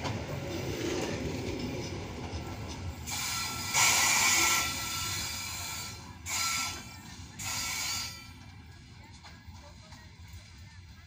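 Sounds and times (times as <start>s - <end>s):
freight train rolling: 0.0s - 11.0s.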